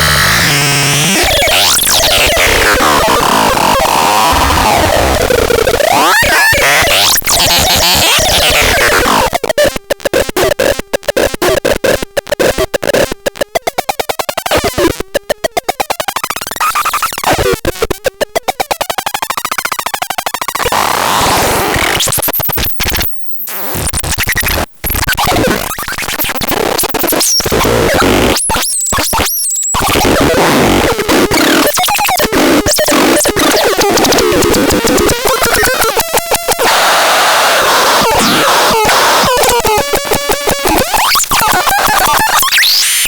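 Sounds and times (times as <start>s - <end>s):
harsh synthesizer noise: 0.0s - 19.7s, 25.2s - 43.0s.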